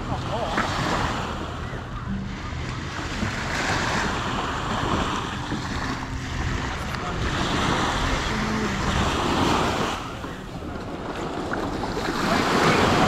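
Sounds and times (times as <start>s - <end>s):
small waves washing on shore: 0.0s - 13.0s
wind buffeting microphone: 0.0s - 13.0s.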